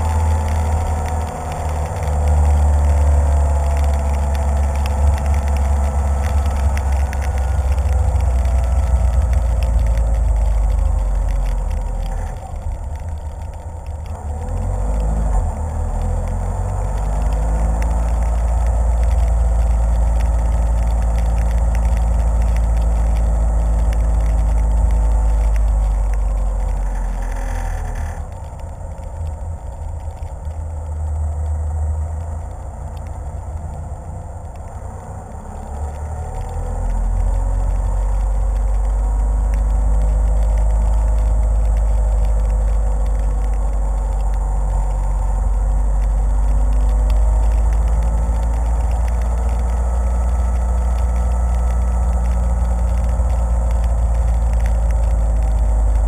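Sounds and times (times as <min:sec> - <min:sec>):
car engine rumble while driving: 0:00.0 - 0:56.0.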